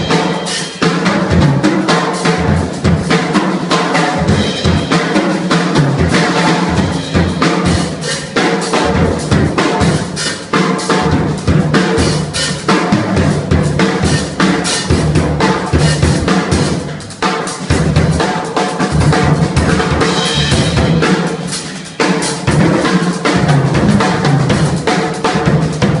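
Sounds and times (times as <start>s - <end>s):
drum kit playing: 0.0s - 26.0s.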